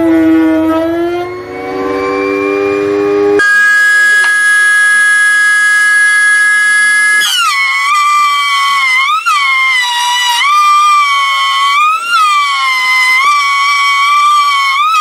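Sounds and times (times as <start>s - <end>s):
table saw motor whining: 1.0s - 15.0s.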